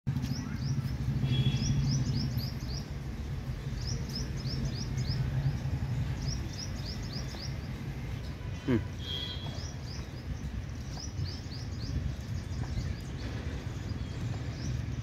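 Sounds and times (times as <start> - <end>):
bird singing chirps: 0.1 - 15.0.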